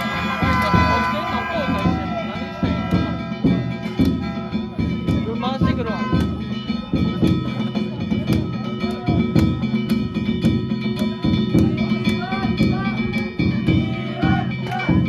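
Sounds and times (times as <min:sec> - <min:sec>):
hand-struck gongs ringing: 0:00.0 - 0:15.0
large drum beating: 0:00.0 - 0:15.0.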